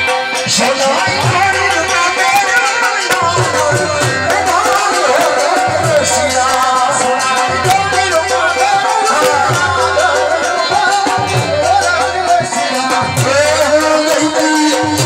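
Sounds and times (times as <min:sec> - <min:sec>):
drums and percussion: 0:00.0 - 0:15.0.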